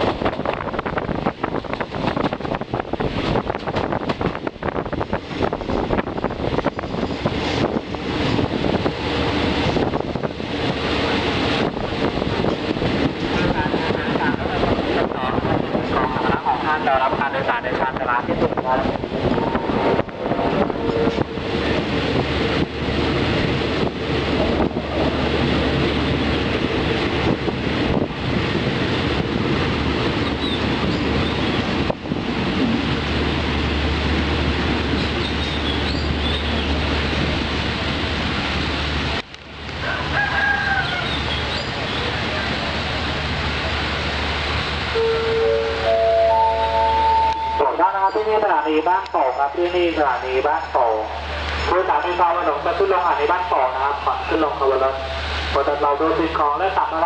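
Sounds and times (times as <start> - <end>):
wind buffeting microphone: 0.0 - 47.6
passenger train rumbling: 0.0 - 57.0.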